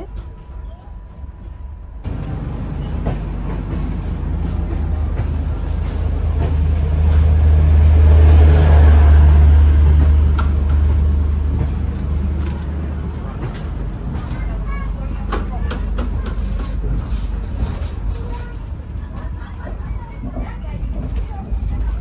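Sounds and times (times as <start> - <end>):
train rumbling from inside coach: 0.0 - 22.0.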